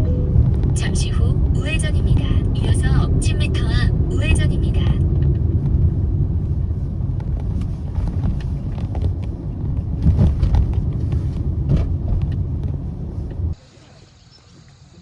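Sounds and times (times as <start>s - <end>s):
engine and tyres rumbling: 0.0s - 14.9s.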